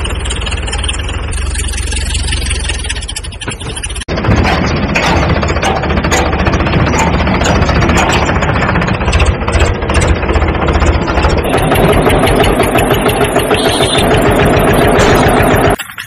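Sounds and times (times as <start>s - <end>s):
engine chugging: 0.0s - 16.0s.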